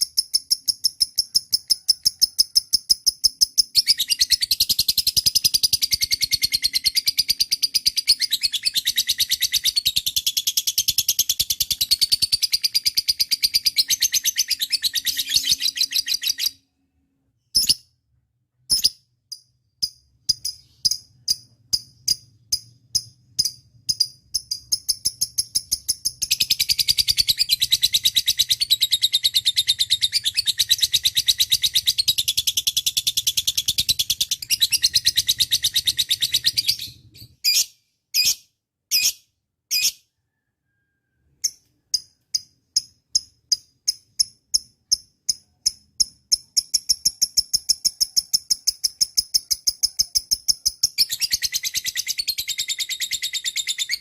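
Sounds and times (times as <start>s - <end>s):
lovebird chirping and trilling: 0.0s - 16.8s, 17.4s - 18.0s, 18.7s - 40.8s, 41.4s - 54.0s.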